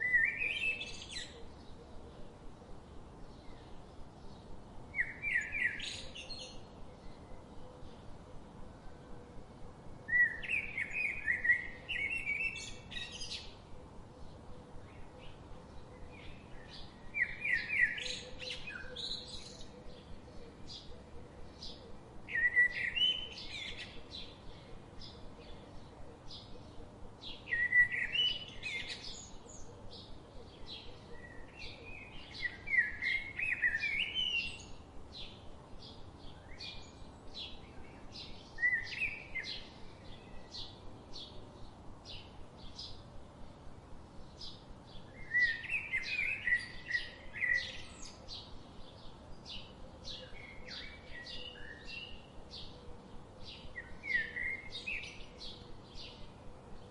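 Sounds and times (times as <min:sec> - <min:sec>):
bird warbling song: 0:00.0 - 0:02.2, 0:03.2 - 0:08.5, 0:10.1 - 0:43.1, 0:44.2 - 0:56.9.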